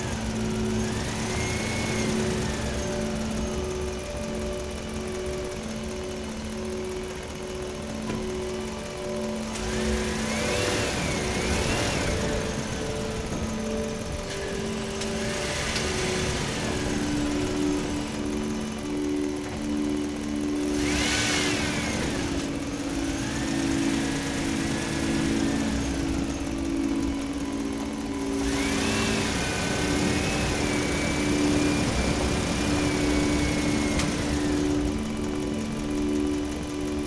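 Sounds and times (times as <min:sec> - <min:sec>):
excavator engine running: 0:00.0 - 0:37.0
hydraulic whine under load: 0:00.0 - 0:37.0.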